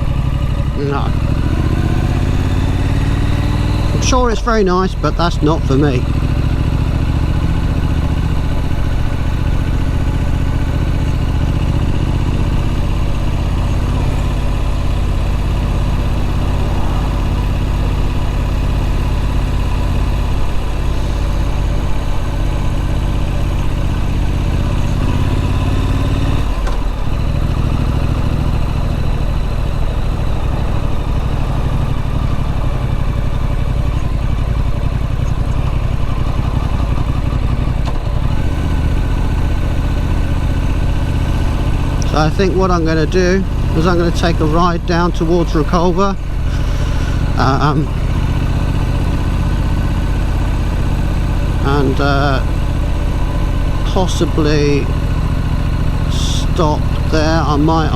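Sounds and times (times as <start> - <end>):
motorcycle engine running: 0.0 - 57.9.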